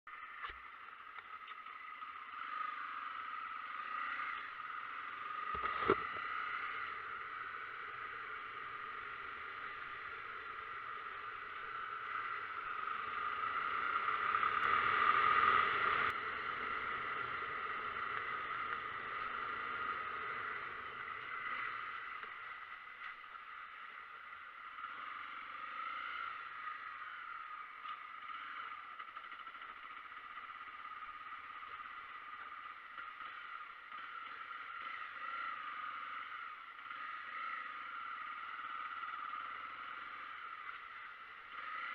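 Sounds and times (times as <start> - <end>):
motorcycle riding noise: 0.1 - 41.9.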